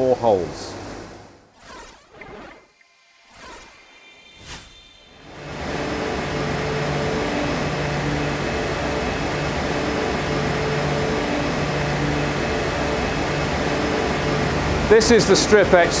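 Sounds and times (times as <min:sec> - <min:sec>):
low hum: 0:01.6 - 0:15.0.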